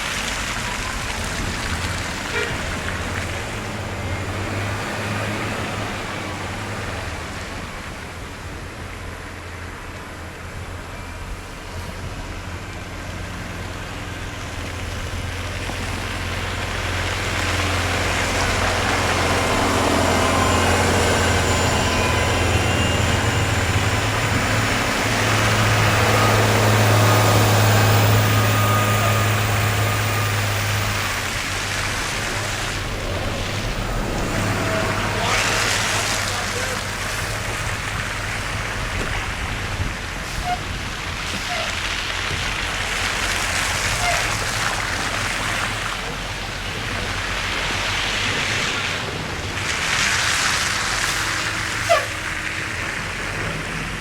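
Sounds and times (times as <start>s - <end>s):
engines humming: 0.0s - 54.0s
vehicle passing on road: 0.0s - 54.0s.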